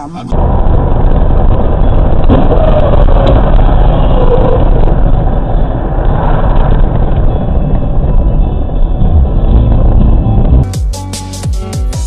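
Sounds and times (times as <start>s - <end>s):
car road and engine noise: 0.0s - 10.8s.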